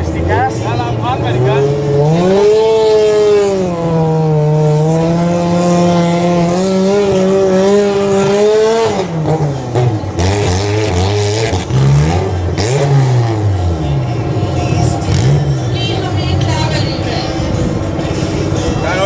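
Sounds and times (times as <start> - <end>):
tractor engine at high revs: 0.0 - 19.0.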